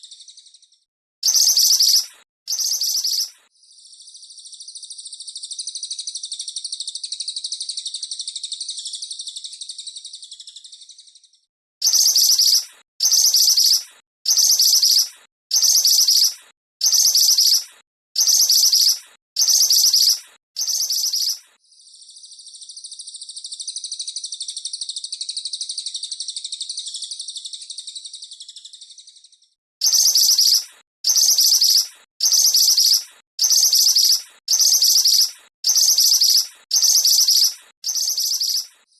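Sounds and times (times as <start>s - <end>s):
harsh chattering bird calls: 0.0s - 11.1s, 11.8s - 29.2s, 29.8s - 38.9s.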